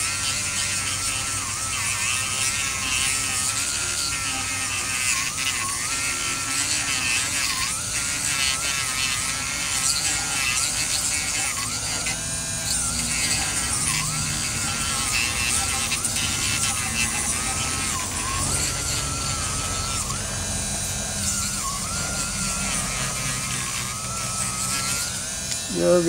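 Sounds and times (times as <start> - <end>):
rotary tool whining: 0.0 - 26.0.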